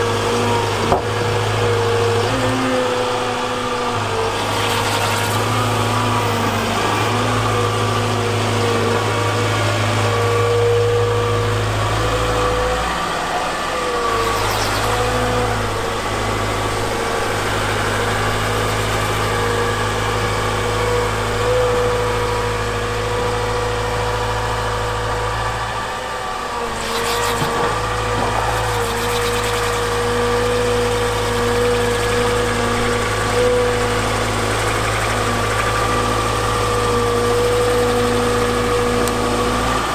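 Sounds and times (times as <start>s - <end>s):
diesel engine under load: 0.0s - 39.9s
wavering whine: 0.0s - 39.9s.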